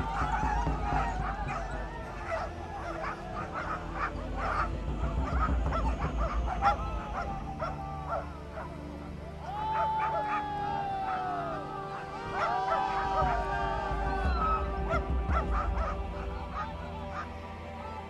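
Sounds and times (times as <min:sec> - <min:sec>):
dogs howling: 0:00.0 - 0:18.0
dogs yelping and barking: 0:00.0 - 0:18.0.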